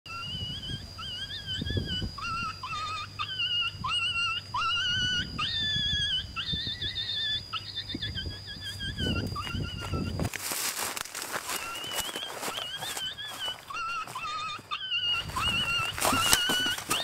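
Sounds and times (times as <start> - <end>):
dog whimpering: 0.1 - 10.3, 11.4 - 17.0
steady high-pitched tone: 0.1 - 17.0.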